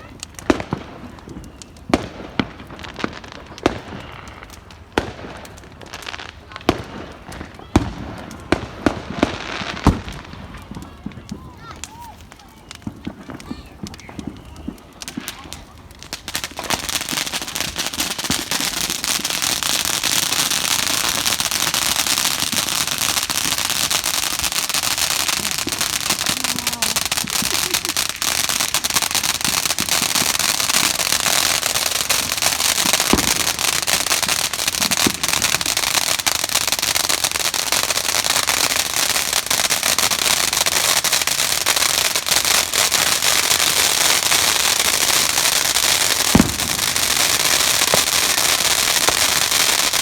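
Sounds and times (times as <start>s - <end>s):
continuous background noise: 0.0s - 42.4s
fireworks bangs: 0.0s - 50.0s.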